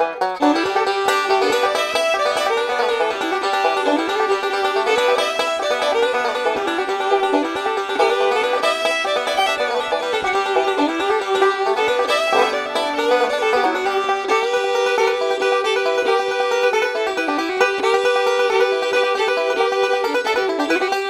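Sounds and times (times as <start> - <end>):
bluegrass banjo music: 0.0 - 21.0.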